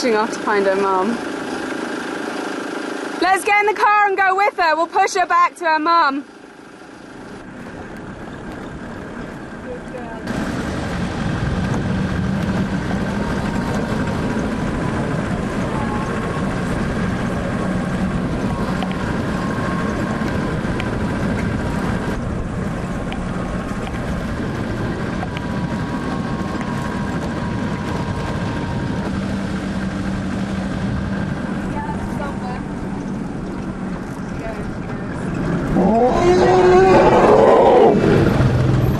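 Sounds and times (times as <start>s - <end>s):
car engine running: 0.0s - 38.9s
road noise: 0.0s - 38.9s.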